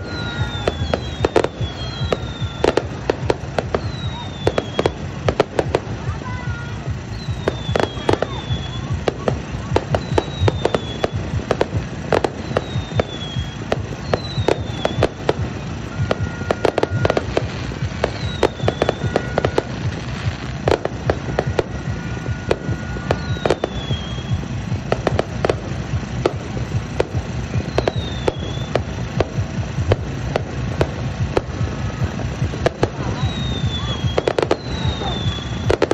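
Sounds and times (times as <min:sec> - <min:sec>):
constant rumble: 0:00.0 - 0:35.9
falling firework whistles: 0:00.0 - 0:35.9
fireworks bangs and crackles: 0:00.0 - 0:35.9.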